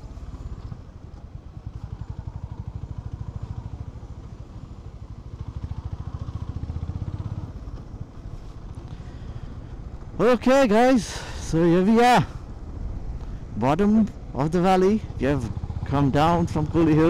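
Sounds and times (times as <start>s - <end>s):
motorcycle engine idling: 0.0s - 10.2s, 11.1s - 17.0s.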